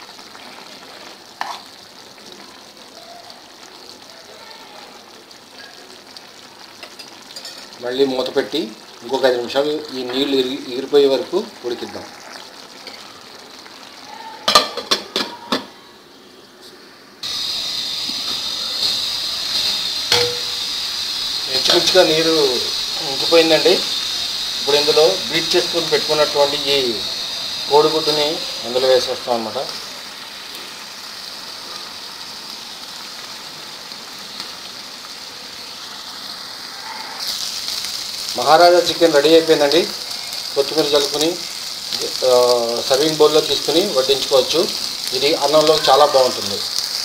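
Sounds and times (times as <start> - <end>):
curry sizzling in oil: 0.0 - 47.0.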